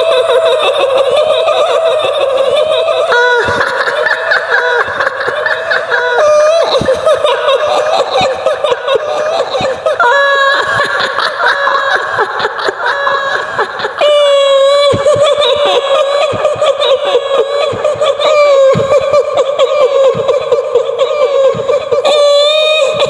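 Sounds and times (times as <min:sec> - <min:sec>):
woman's shrill cackling laughter: 0:00.1 - 0:23.0.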